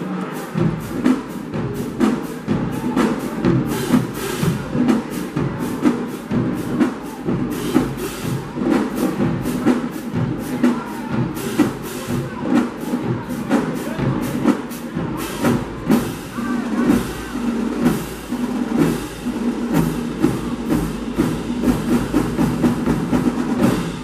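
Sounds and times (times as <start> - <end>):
drumline playing marching cadence: 0.0 - 24.0.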